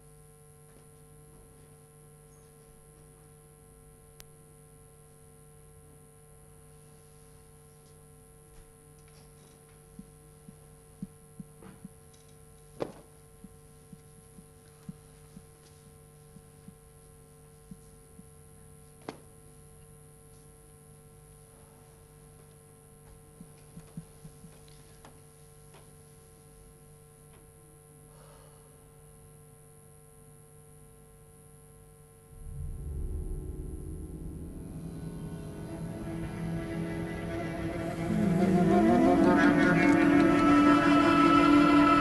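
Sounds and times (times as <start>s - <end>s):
faint electrical hum: 0.0s - 38.1s.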